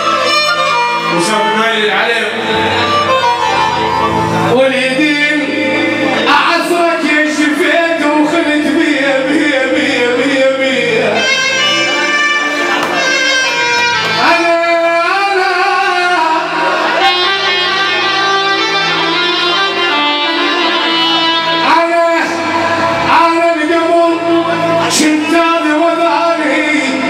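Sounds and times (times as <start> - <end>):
live band music with singing: 0.0 - 27.0.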